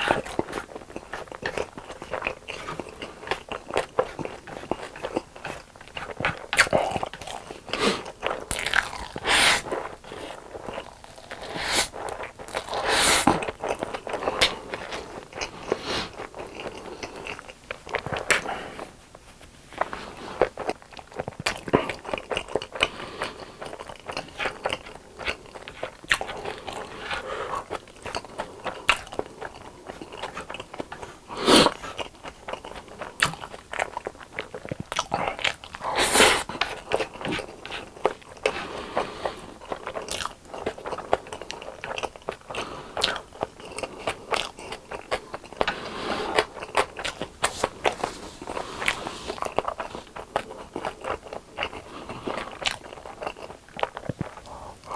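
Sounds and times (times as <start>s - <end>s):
crunchy chicken chewing: 0.0s - 54.9s.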